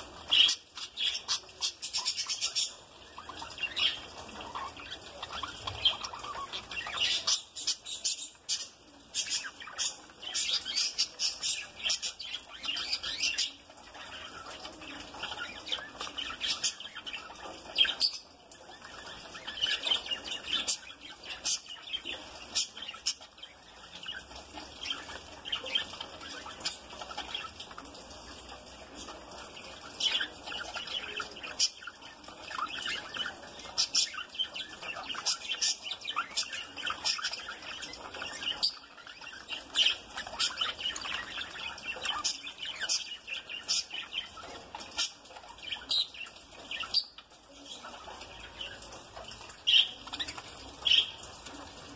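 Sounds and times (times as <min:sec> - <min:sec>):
budgerigars chattering and chirping: 0:00.0 - 0:51.9.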